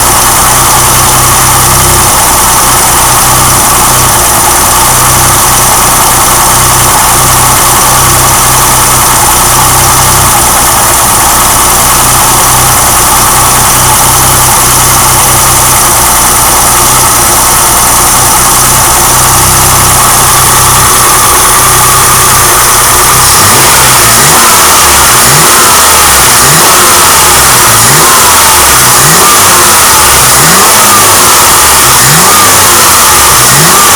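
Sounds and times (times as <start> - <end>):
car engine idling: 0.0 - 33.9
engine revving in blips: 0.0 - 33.9.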